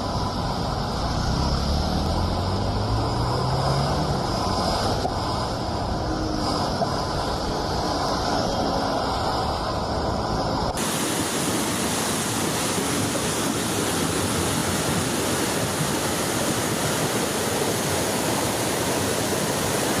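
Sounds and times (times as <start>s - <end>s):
loud steady rushing noise: 0.0s - 20.0s.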